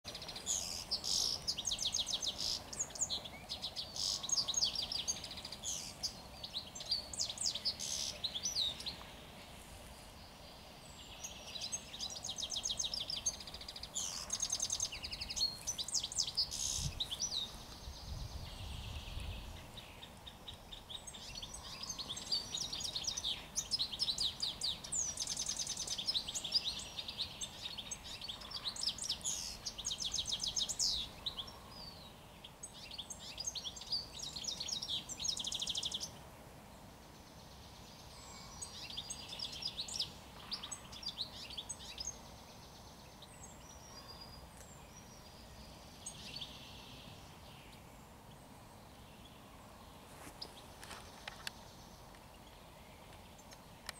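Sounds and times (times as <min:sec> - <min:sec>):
songbirds twittering and trilling: 0:00.0 - 0:53.9.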